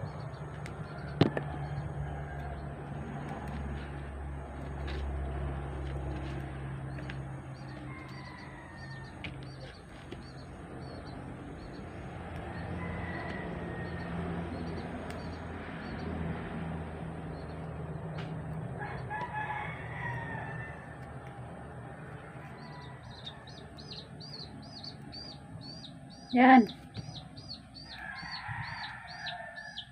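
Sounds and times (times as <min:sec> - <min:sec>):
roosters crowing: 0:00.0 - 0:29.9.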